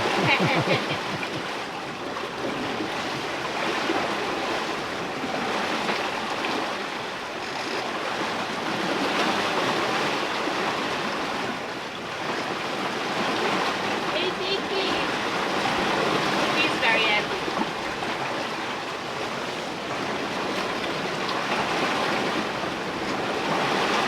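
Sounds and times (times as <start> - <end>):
water rushing along hull: 0.0 - 24.0
waves breaking: 0.0 - 24.0
wind: 0.0 - 24.0.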